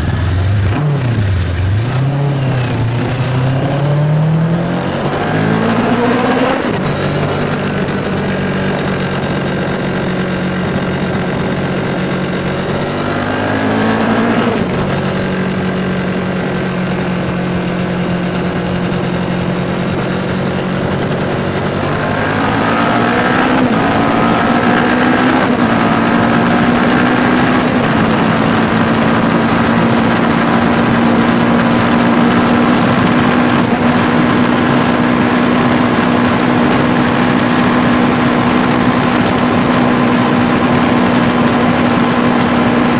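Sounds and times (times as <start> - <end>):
motorcycle engine accelerating: 0.0 - 42.9
wind noise on microphone: 0.0 - 42.9.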